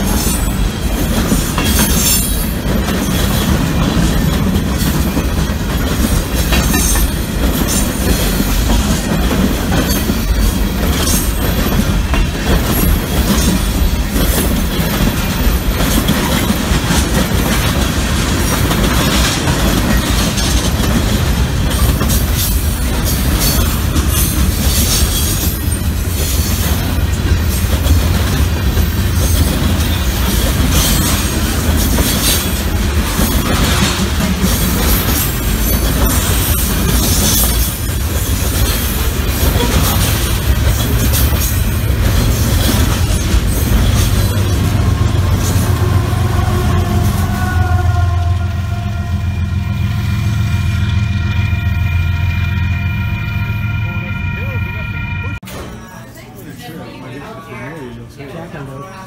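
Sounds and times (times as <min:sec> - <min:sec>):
freight train rumbling past: 0:00.0 - 0:55.6
train wheels clacking: 0:00.0 - 0:55.7.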